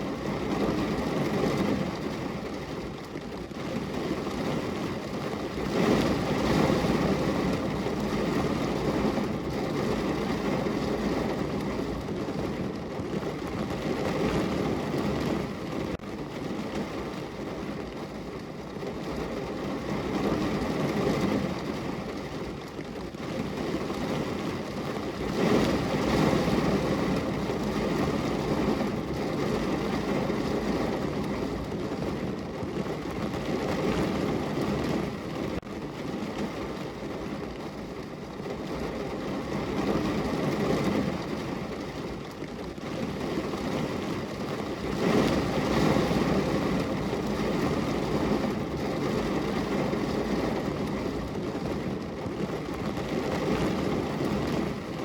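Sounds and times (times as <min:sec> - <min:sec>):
heavy rain drumming on car roof: 0:00.0 - 0:55.0.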